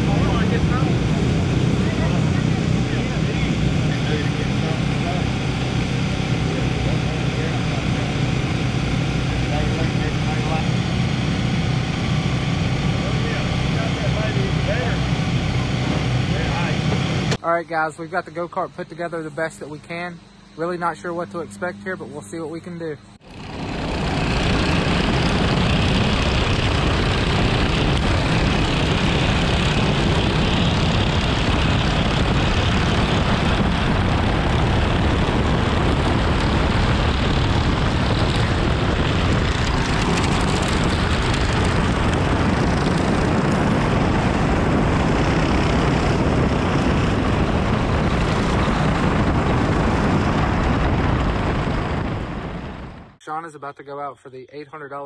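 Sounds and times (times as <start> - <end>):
go-kart engine running: 0.0 - 17.4, 23.2 - 53.2.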